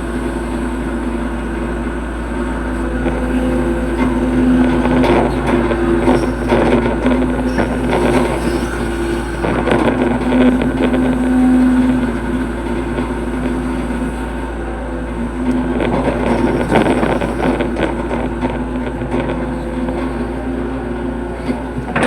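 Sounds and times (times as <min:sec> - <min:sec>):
excavator diesel engine droning: 0:00.0 - 0:22.0
excavator bucket clattering: 0:02.8 - 0:14.2, 0:15.1 - 0:22.0.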